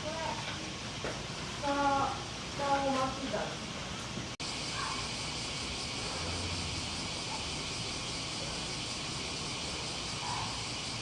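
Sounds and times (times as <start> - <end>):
insect chorus droning: 0.0 - 3.8, 4.4 - 11.0.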